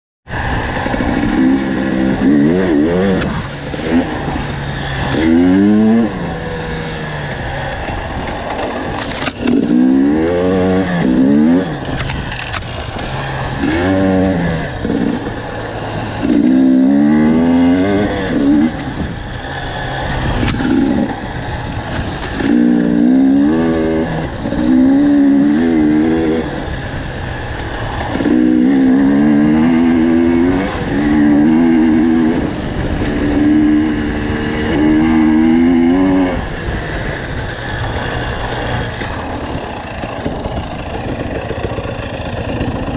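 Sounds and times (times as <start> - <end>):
dirt bike engine revving: 0.3 - 42.9.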